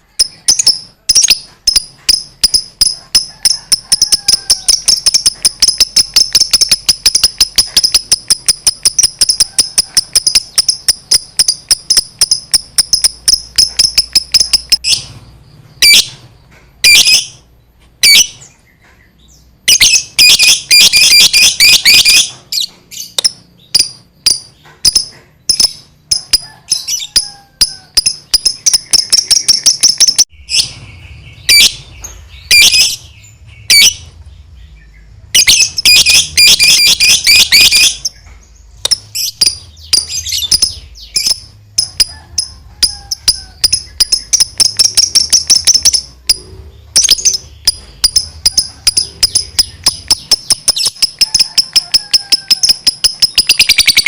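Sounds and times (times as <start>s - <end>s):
lovebird shrill chattering: 0.1s - 15.1s, 16.8s - 17.4s, 19.7s - 22.4s, 23.0s - 34.0s, 35.4s - 38.2s, 38.8s - 54.0s.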